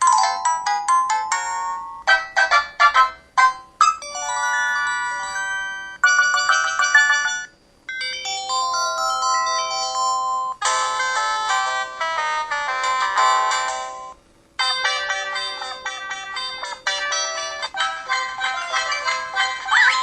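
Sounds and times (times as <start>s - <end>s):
electronic ringtone melodies: 0.0s - 20.0s.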